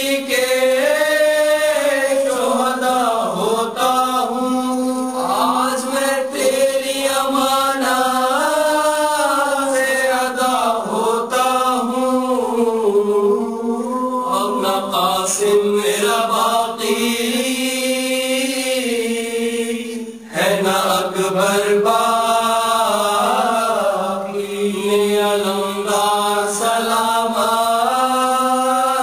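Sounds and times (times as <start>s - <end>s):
solo voice chanting a lament: 0.0s - 29.0s.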